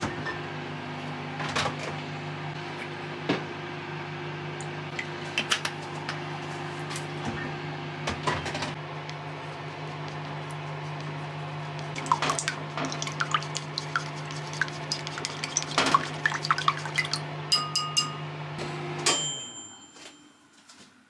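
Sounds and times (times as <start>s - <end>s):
household appliance humming: 0.0s - 19.8s.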